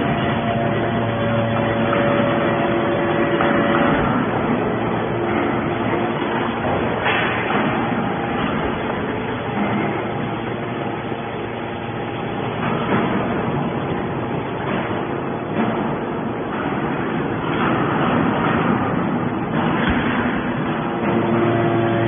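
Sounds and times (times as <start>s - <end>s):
hydraulic baler running: 0.0s - 22.0s
hydraulic power unit hum: 0.0s - 22.0s.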